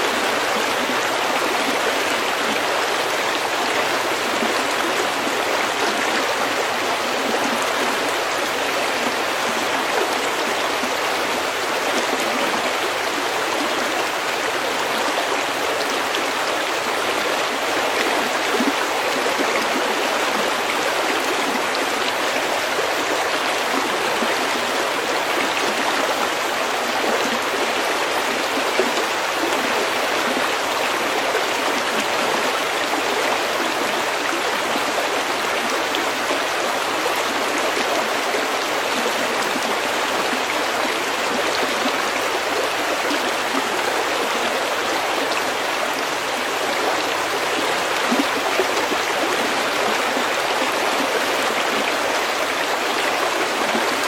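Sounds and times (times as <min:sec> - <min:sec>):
creek babbling over pebbles: 0:00.0 - 0:54.0.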